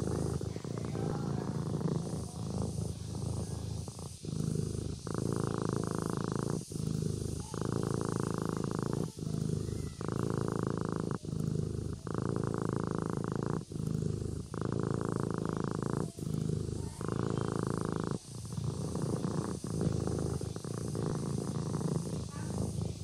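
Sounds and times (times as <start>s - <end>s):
kitten purring: 0.0s - 23.0s.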